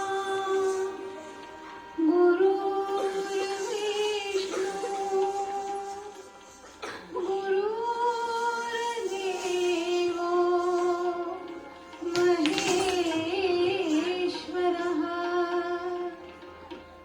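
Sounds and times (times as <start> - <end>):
classical dance music held notes: 0.0 - 17.0.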